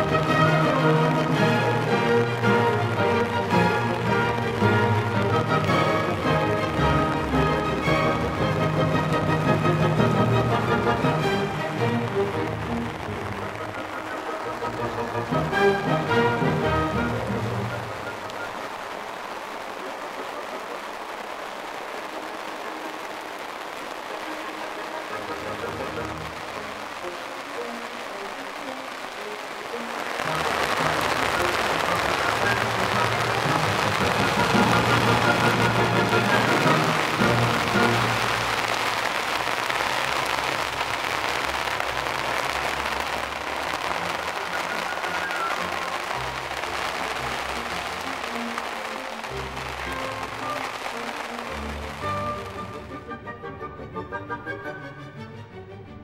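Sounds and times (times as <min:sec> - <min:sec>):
background music: 0:00.0 - 0:19.6, 0:20.4 - 0:56.0
rain on plastic tent: 0:00.0 - 0:53.6.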